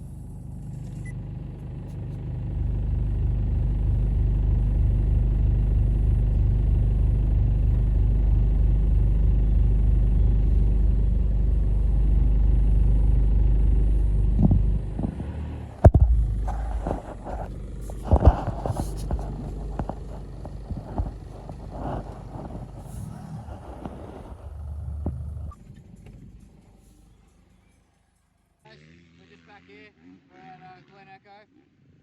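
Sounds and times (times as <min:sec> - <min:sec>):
car engine and road noise: 0:00.0 - 0:27.6.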